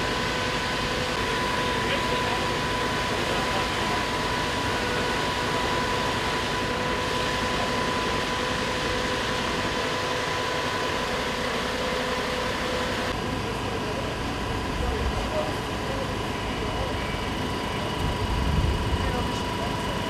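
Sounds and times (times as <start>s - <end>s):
faint steady whine: 0.0s - 20.0s
fire engine mechanical drone: 0.0s - 20.0s.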